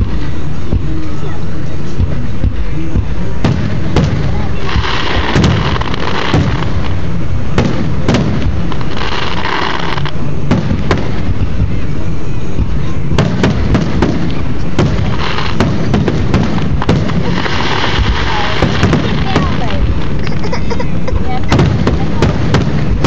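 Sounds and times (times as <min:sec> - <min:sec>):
fireworks bangs: 0:00.0 - 0:23.0
fireworks hiss: 0:00.0 - 0:23.0
low booming rumble: 0:00.0 - 0:23.0.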